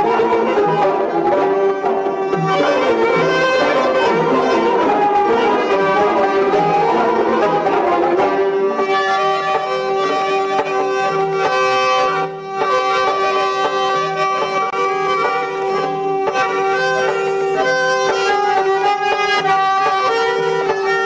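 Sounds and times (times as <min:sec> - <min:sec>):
traditional instrumental music: 0:00.0 - 0:21.0.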